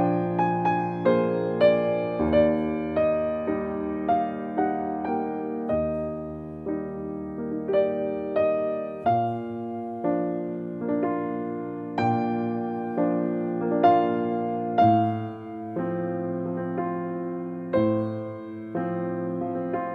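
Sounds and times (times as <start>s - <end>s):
soft piano music: 0.0s - 19.9s.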